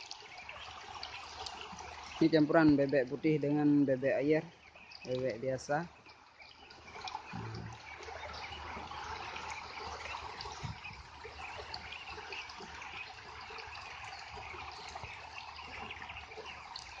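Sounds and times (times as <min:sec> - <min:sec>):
ducks splashing in water: 0:00.0 - 0:17.0.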